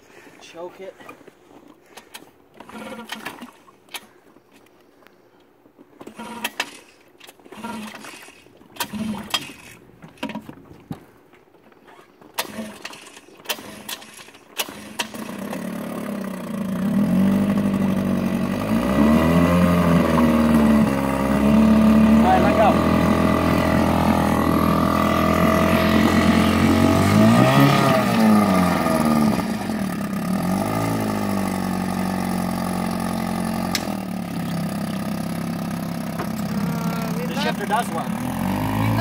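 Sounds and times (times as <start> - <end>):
starter cord tugs: 0.8 - 4.2, 5.8 - 39.0
outboard engine revving: 2.6 - 3.6, 6.0 - 10.1, 12.3 - 39.0.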